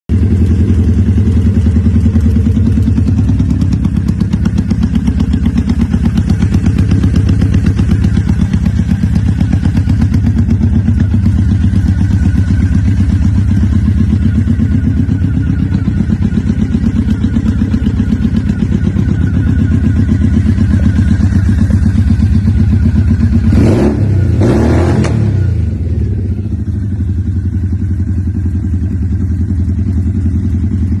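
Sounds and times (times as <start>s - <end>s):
motorcycle engine idling: 0.1s - 31.0s.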